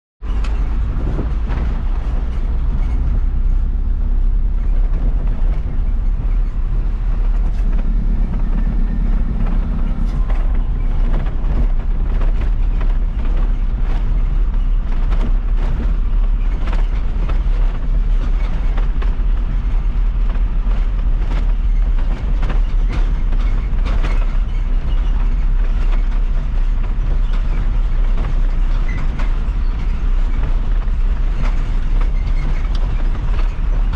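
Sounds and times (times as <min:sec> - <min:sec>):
diesel truck engine rumbling: 0:00.2 - 0:33.9
truck body rattling and knocking: 0:00.2 - 0:33.9.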